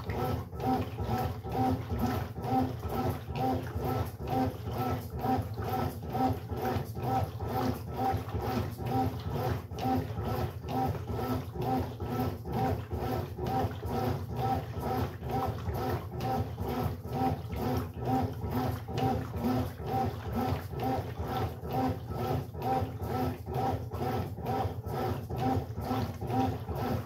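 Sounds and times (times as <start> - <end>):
washing machine motor whirring: 0.0 - 27.0.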